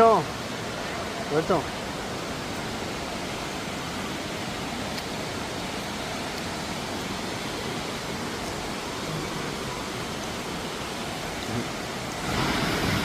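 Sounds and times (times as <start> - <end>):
falling water rushing: 0.0 - 13.0.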